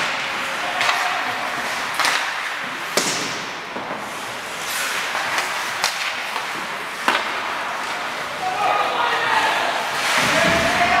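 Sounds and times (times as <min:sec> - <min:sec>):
hockey sticks clacking puck: 0:00.0 - 0:11.0.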